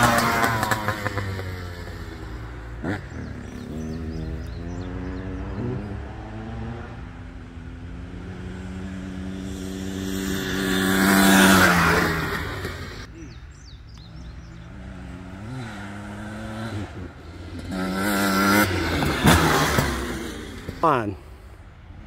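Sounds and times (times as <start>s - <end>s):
motorcycle engine passing: 0.0s - 22.0s
second motorcycle approaching: 0.0s - 22.0s.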